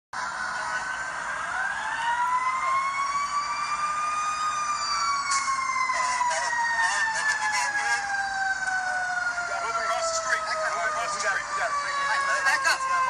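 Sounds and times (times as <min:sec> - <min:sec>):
emergency vehicle sirens wailing: 0:00.2 - 0:13.0.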